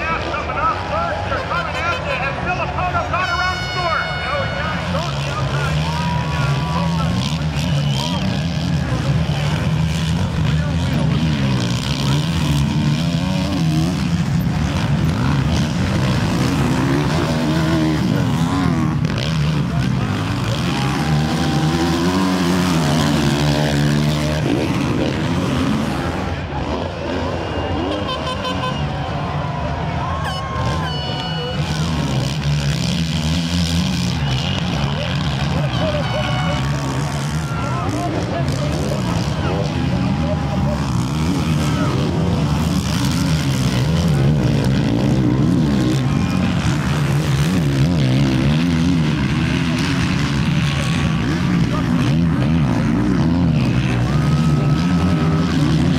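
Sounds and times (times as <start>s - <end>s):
motocross engines revving: 0.0s - 55.9s.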